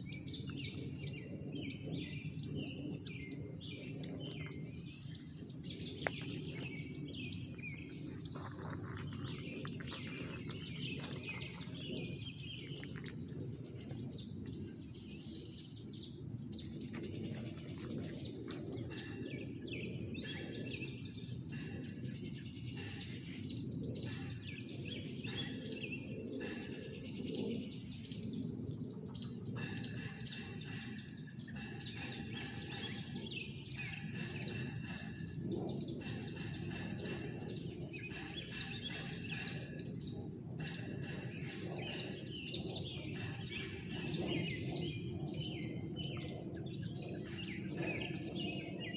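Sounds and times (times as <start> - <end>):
low background rumble: 0.0 - 48.9
songbirds chirping and trilling: 0.0 - 48.9.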